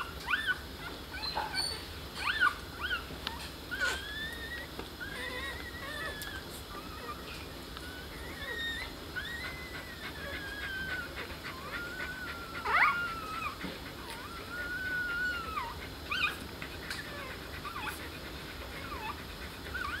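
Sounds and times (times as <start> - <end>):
puppies squeaking and whimpering: 0.0 - 20.0.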